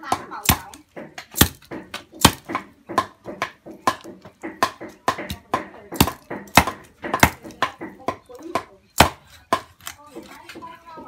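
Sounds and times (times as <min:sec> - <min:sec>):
cleaver chopping on wooden block: 0:00.0 - 0:09.9.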